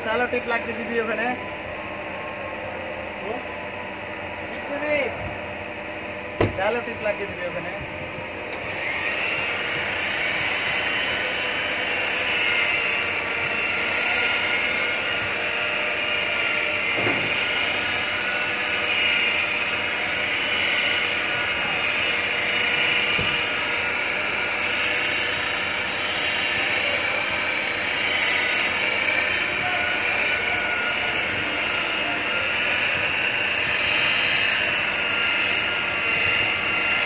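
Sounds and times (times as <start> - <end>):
electric polisher whirring: 0.0 - 37.0.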